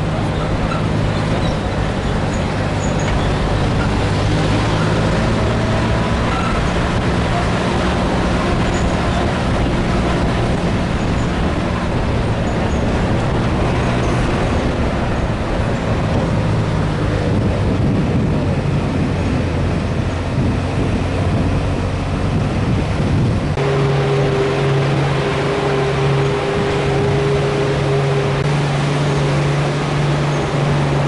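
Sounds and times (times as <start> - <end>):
road and wind rumble: 0.0 - 31.0
truck engine climbing: 0.0 - 31.0.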